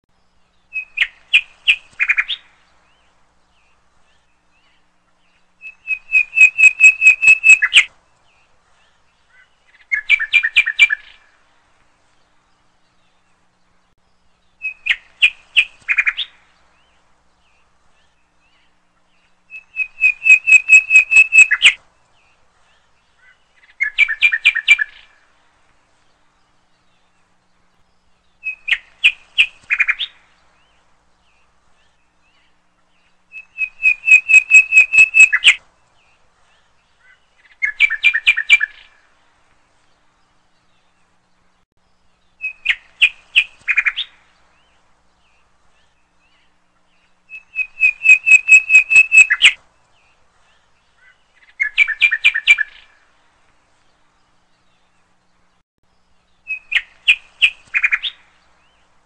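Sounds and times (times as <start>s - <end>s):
bird chirping: 0.1s - 59.0s.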